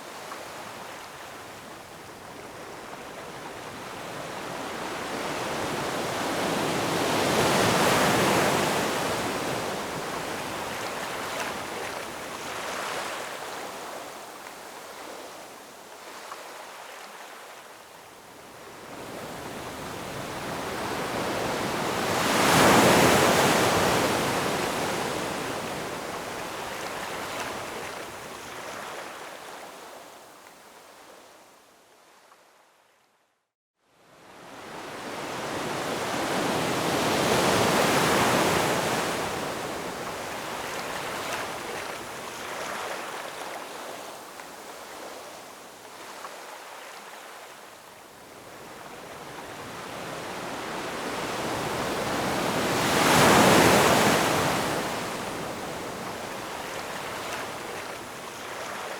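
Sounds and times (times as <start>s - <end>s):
ocean waves breaking on shore: 0.0s - 17.5s, 18.5s - 30.1s, 34.1s - 58.9s.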